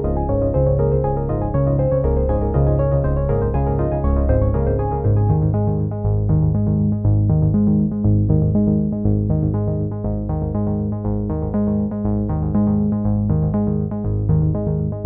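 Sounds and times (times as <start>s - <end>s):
electronic music with synthesizer: 0.0s - 15.0s.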